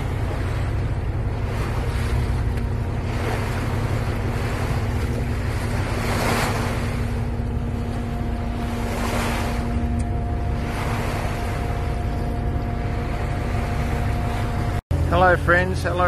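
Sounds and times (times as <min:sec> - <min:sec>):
bow wave splashing along hull: 0:00.0 - 0:16.0
steady low drone: 0:00.0 - 0:16.0.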